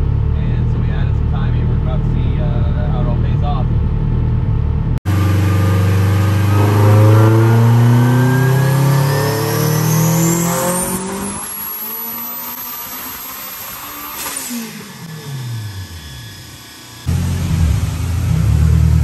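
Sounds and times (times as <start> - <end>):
car engine revving: 0.0 - 19.0
high whine: 0.0 - 19.0.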